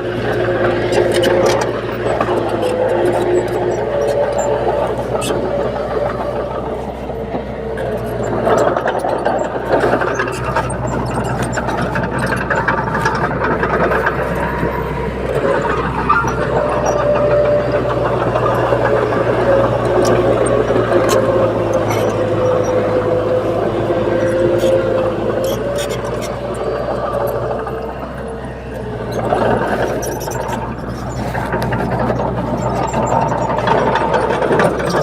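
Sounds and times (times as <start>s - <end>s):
heavy diesel machinery running: 0.0s - 35.0s
sharp clicks and clanks: 0.0s - 35.0s.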